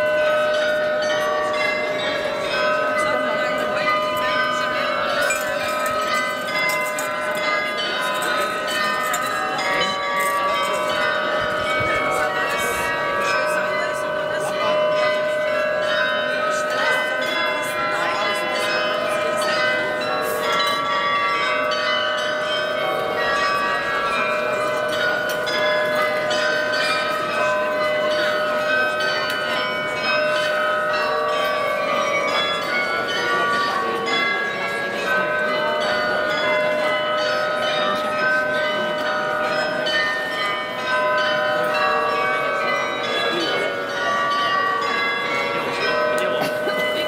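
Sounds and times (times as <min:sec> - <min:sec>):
tuned bells playing a melody: 0:00.0 - 0:47.0.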